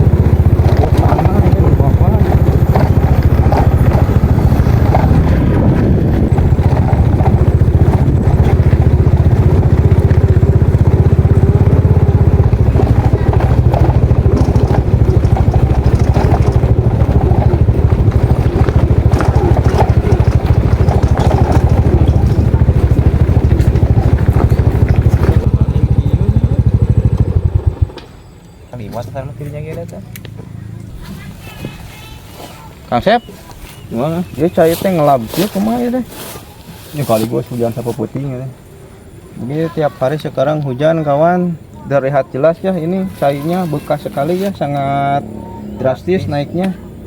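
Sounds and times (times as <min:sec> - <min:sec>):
small motorcycle engine running: 0:00.0 - 0:47.0.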